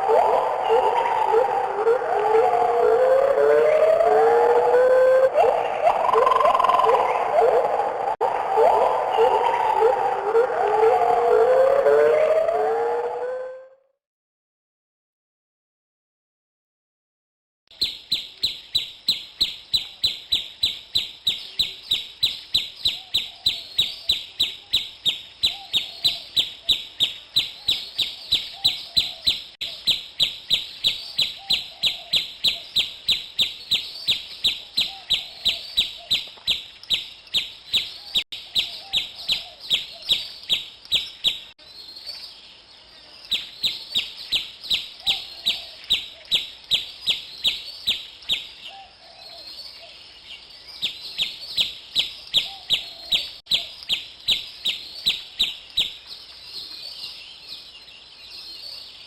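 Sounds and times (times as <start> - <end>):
bird chirping: 0.0 - 11.2, 17.7 - 59.0.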